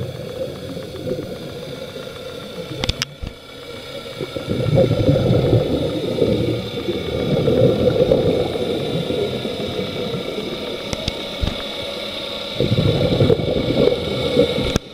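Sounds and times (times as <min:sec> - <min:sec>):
bubbles gurgling underwater: 0:00.0 - 0:11.9, 0:12.5 - 0:14.9.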